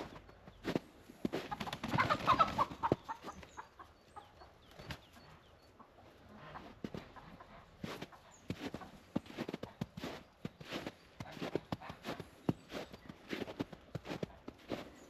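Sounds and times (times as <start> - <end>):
chickens clucking and squawking: 0.0 - 15.0.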